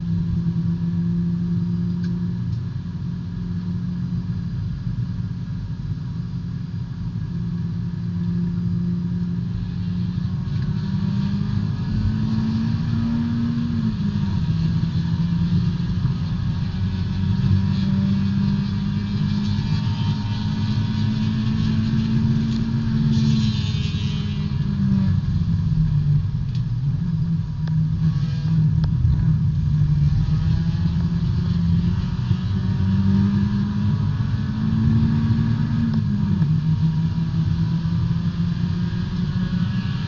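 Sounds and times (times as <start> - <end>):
race car engine from inside: 0.0 - 40.0.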